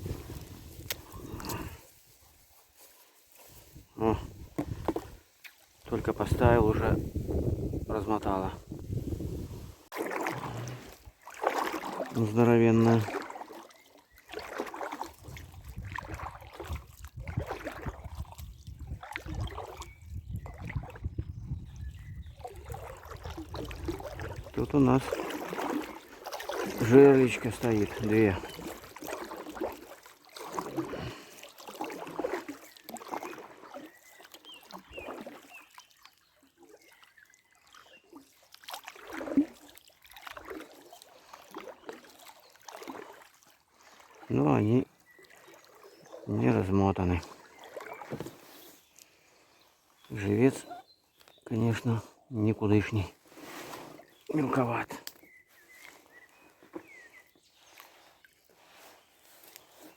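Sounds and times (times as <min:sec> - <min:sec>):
water splashing around boat: 0:00.0 - 0:59.9.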